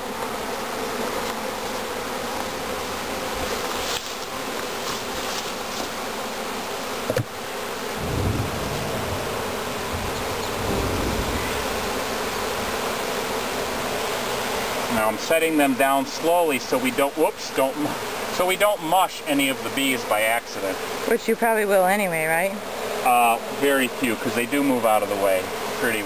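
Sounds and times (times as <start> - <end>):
honeybee swarm buzzing: 0.0 - 26.0.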